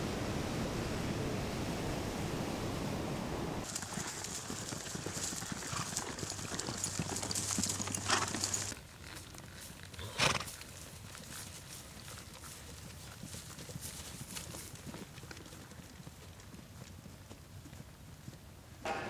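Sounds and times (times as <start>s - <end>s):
horse hooves clopping: 3.6s - 19.0s.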